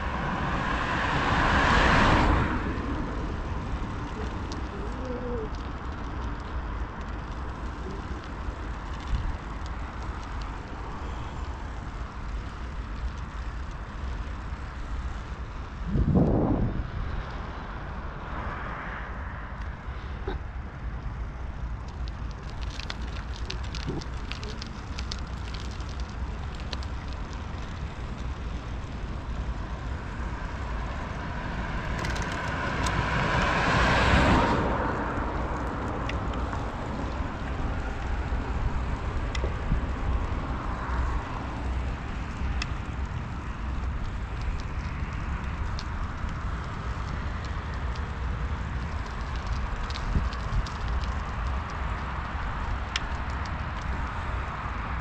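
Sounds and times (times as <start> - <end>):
low rumbling noise: 0.0 - 55.0
road vehicle hiss passing by: 0.0 - 55.0.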